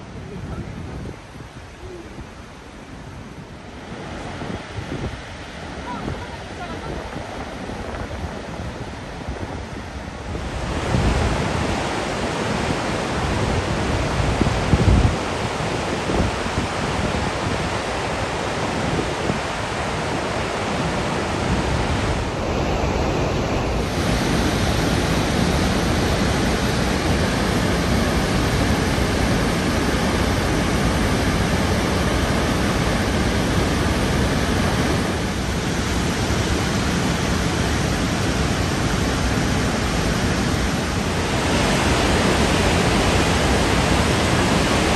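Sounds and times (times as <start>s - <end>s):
waterfall roaring: 0.0s - 44.9s
wind bumps on microphone: 0.0s - 44.9s.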